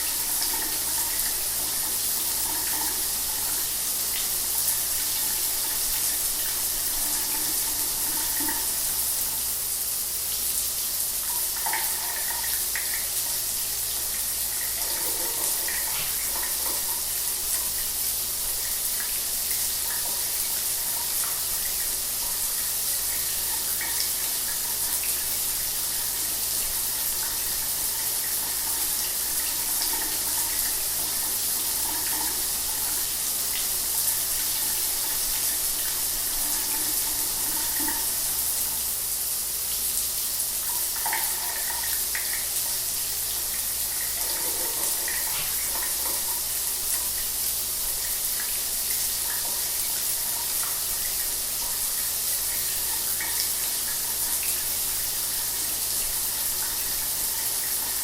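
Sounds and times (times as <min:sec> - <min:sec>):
shower water running: 0:00.0 - 0:58.0.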